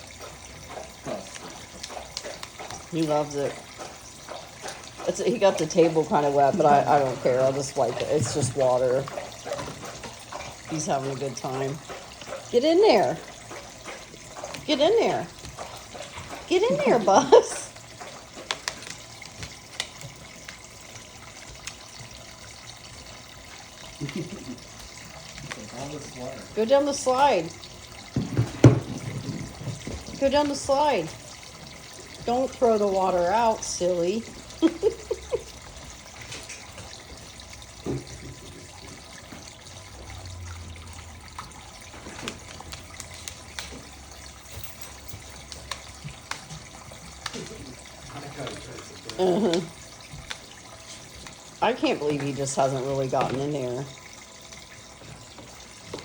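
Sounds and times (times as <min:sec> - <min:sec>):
small splashes: 0:00.0 - 0:56.0
water trickling: 0:00.0 - 0:56.0.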